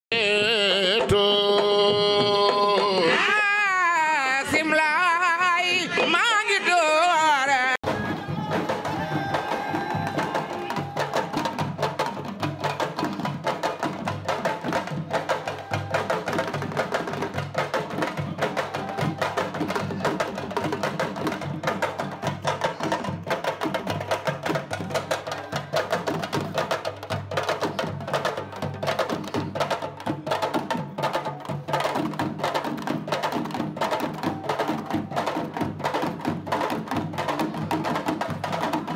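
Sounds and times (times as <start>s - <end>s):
hand drums playing fast rhythm: 0.6s - 6.2s, 7.8s - 38.9s.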